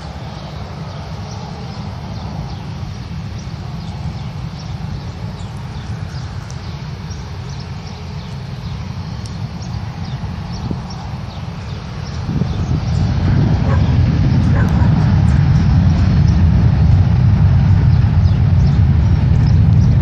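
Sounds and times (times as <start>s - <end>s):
small birds chirping: 0.0s - 16.8s, 17.4s - 20.0s
wind rumble on microphone: 0.0s - 20.0s.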